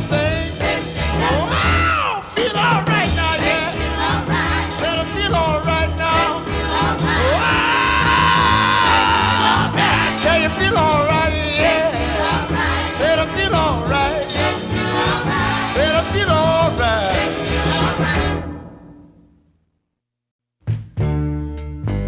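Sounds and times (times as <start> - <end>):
oldies pop soul music: 0.0 - 18.9.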